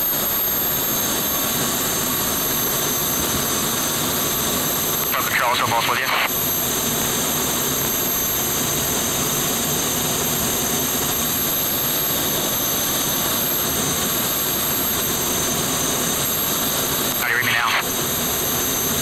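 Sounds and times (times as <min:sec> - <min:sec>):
small jet engine whining: 0:00.0 - 0:19.0.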